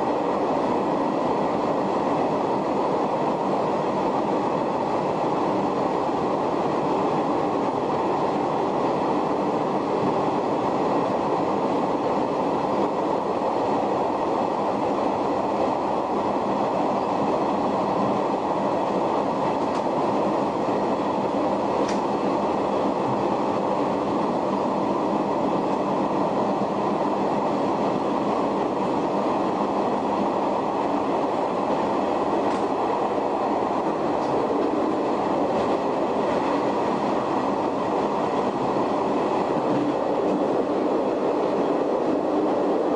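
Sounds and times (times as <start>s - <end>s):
train wheels and motors rumbling: 0.0s - 42.9s.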